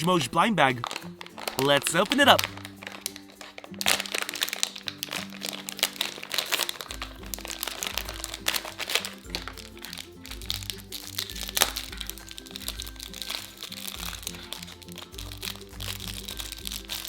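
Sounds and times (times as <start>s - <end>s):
background music: 0.0s - 17.0s
plastic wrapper crinkling: 0.0s - 17.0s.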